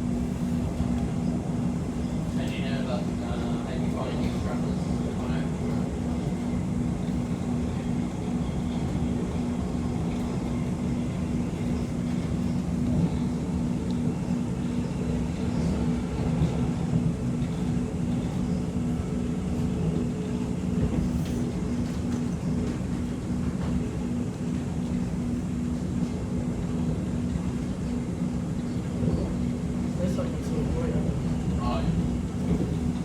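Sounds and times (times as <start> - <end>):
train cabin rumble: 0.0 - 33.0.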